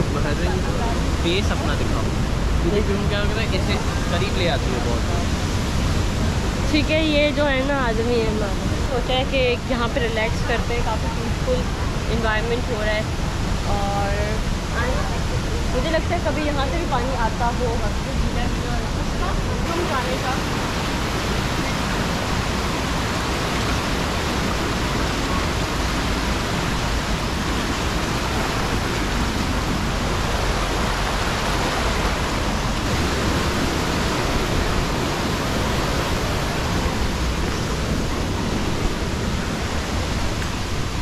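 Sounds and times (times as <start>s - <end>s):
river water rushing through channel: 0.0s - 41.0s.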